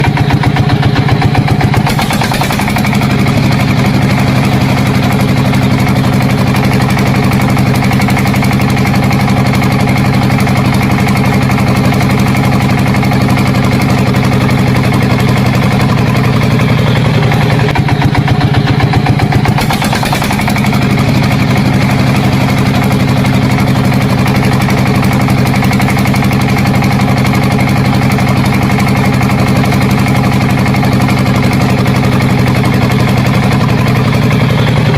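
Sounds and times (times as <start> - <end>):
tractor engine idling with knocking: 0.0 - 34.9.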